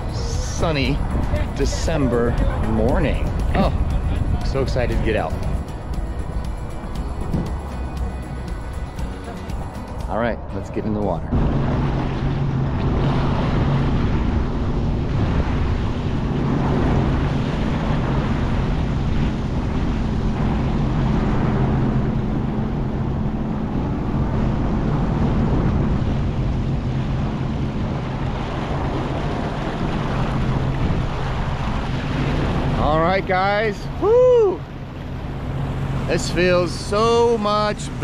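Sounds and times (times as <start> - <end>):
rushing water: 0.0 - 38.0
watercraft engine humming: 0.0 - 38.0
wind on microphone: 0.0 - 38.0.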